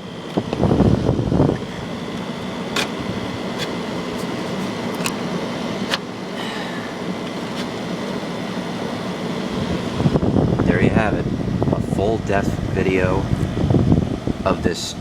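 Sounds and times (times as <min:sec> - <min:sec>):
air conditioner fan rushing: 0:00.0 - 0:15.0.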